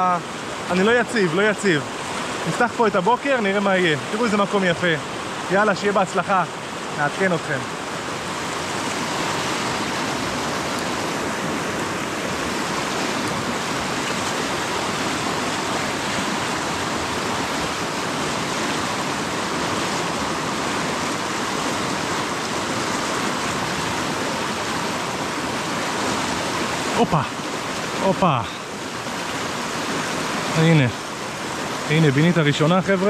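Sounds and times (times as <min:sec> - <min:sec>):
river rushing: 0:00.0 - 0:33.0.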